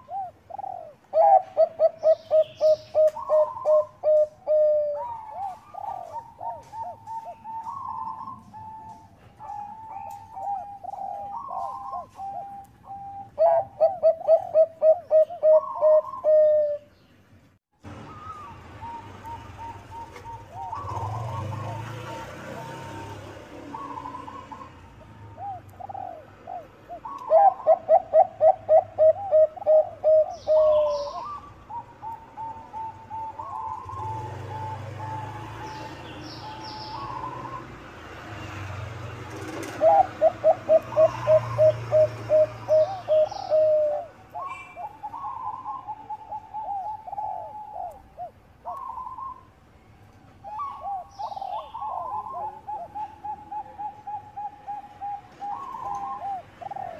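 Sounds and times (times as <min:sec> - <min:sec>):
doves cooing: 0:00.0 - 0:16.9, 0:17.9 - 0:49.5, 0:50.4 - 0:56.9.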